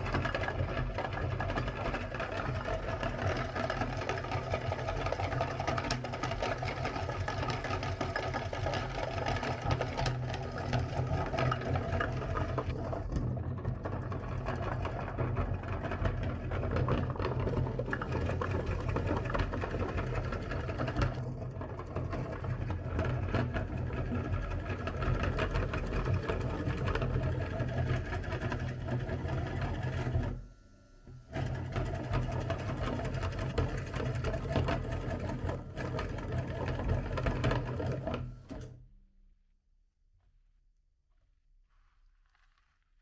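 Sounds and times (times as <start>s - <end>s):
electric meat grinder running: 0.0s - 38.7s.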